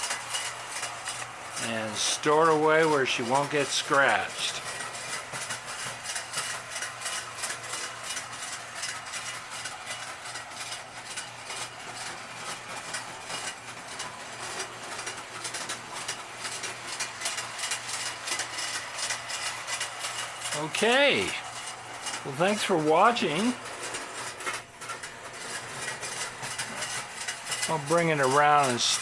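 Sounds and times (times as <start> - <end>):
toy train wheels clicking: 0.0 - 29.0.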